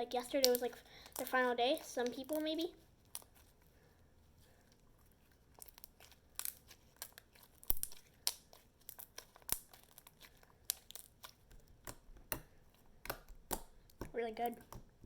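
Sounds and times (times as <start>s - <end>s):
sticky slime clicks and crackles: 0.1s - 3.4s, 5.5s - 15.0s.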